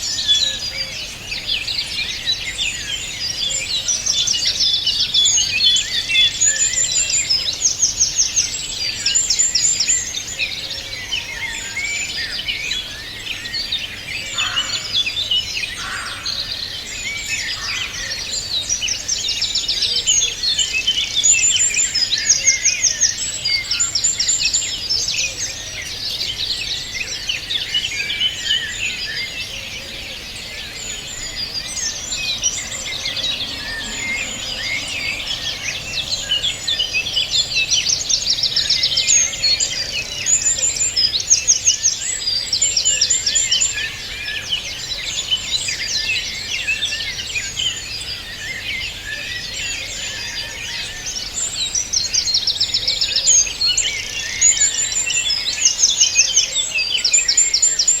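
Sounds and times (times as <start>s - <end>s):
songbird chorus: 0.0s - 58.0s.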